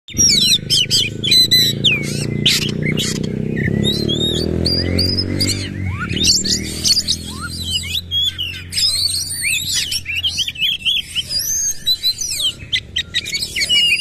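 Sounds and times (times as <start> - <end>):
bird singing: 0.1 - 14.0.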